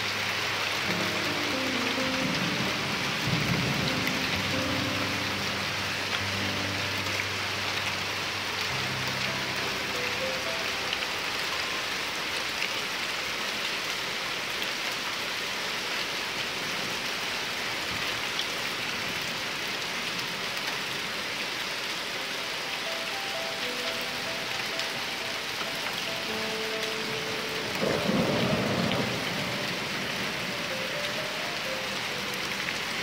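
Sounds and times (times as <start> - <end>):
heavy rain on pavement and cars: 0.0 - 33.0.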